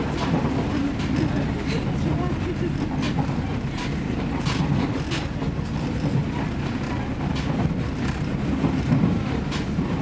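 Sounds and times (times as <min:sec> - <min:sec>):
diesel railcar rumbling: 0:00.0 - 0:10.0
wheels clacking over rail joints: 0:00.0 - 0:10.0.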